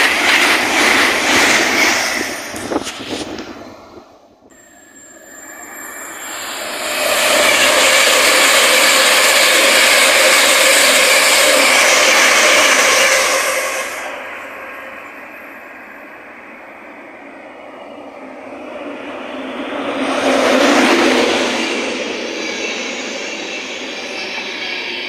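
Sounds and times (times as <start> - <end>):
train passing: 0.0 - 25.0.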